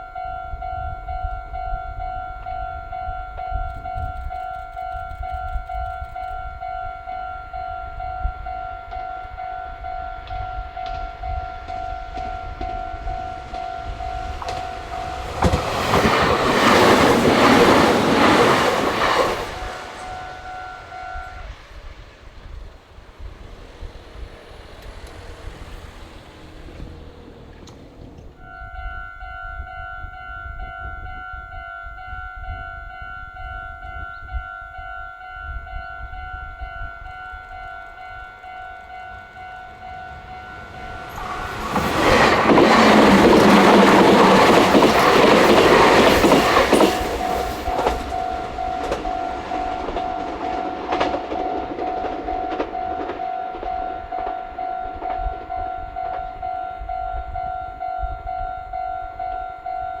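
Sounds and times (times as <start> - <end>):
electric train passing: 0.0 - 60.0
level crossing warning bell: 0.0 - 60.0
wheels clicking over rail joints: 3.3 - 31.0, 33.2 - 60.0.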